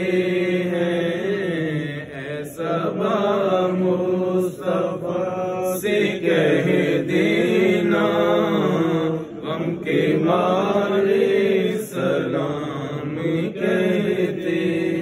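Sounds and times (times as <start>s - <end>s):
man chanting devotional song: 0.0s - 15.0s.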